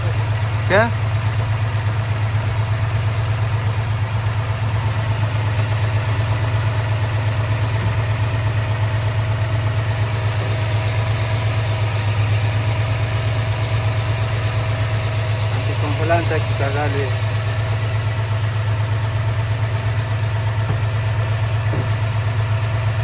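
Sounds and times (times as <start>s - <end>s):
engine idling steadily: 0.0s - 23.0s.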